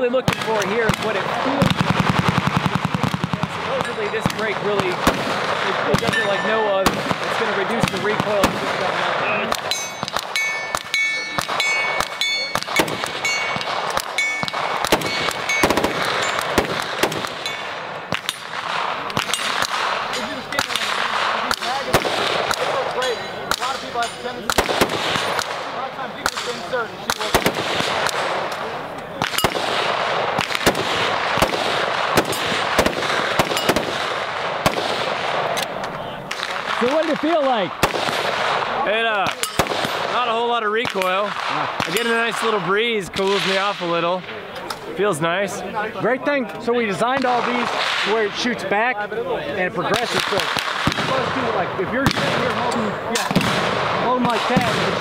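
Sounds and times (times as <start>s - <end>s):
rifle shots: 0.2s - 44.4s, 47.0s - 48.5s, 49.9s - 55.0s.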